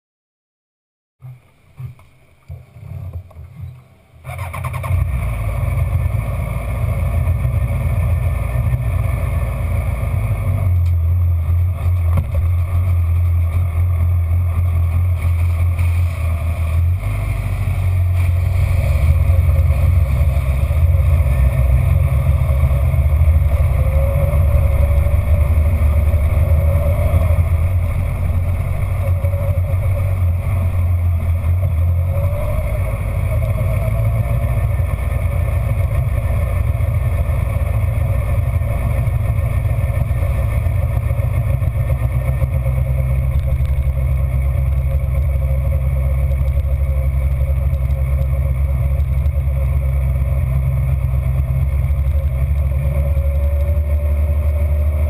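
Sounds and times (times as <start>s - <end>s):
motorcycle engine at speed: 1.2s - 55.0s.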